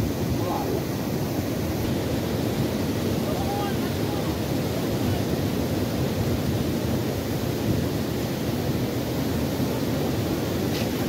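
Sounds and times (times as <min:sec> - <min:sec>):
river rushing over stones: 0:00.0 - 0:11.0.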